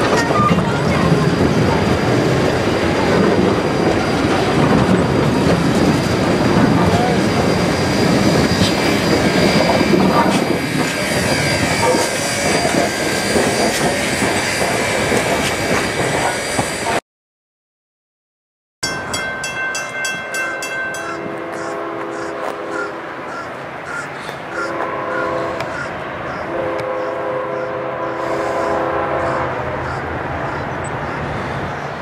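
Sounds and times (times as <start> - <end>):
train wheels rumbling on rails: 0.0 - 17.0, 18.9 - 32.0.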